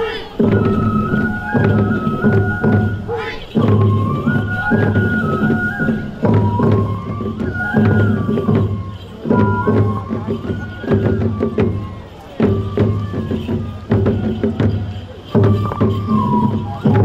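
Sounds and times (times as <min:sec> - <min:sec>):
bamboo flute melody: 0:00.0 - 0:17.0
taiko drumming: 0:00.0 - 0:17.0.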